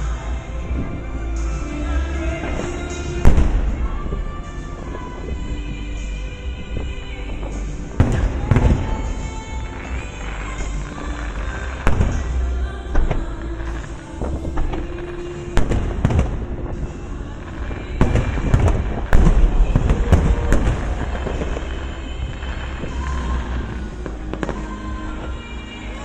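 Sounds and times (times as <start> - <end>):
fireworks bangs and crackles: 0.0 - 26.0
music playing: 0.0 - 26.0
steady low rumble: 0.0 - 26.0.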